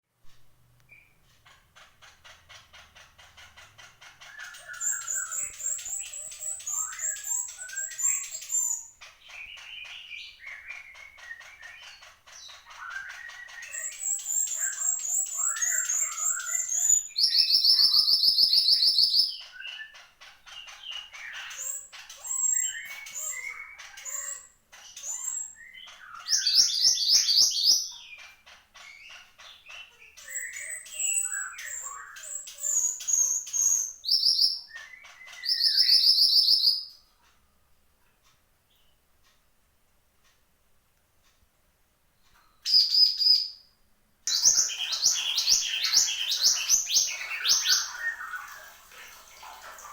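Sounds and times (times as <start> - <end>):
bird chirping and warbling: 0.9 - 37.1, 42.4 - 43.6, 44.3 - 49.9.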